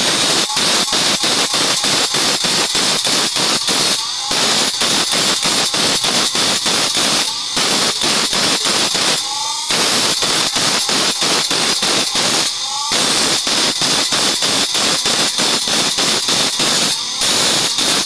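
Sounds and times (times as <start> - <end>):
bench grinder grinding steel: 0.0 - 18.0
grinder motor whine: 0.0 - 18.0.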